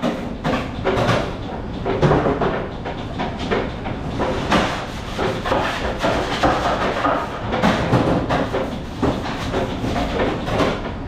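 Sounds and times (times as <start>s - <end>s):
kitchen background noise: 0.0s - 11.0s.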